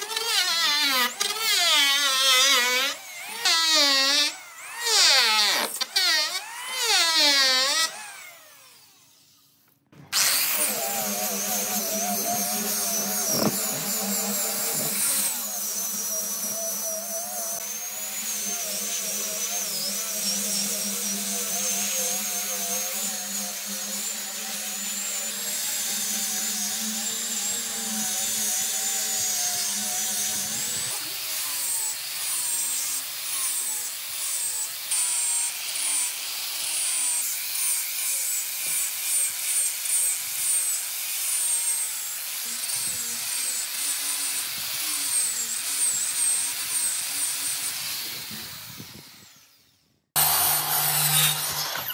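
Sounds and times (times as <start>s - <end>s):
electric hand planer spinning down: 0.0s - 9.4s, 10.1s - 33.6s, 42.5s - 51.9s
angle grinder sanding wood: 0.0s - 51.9s.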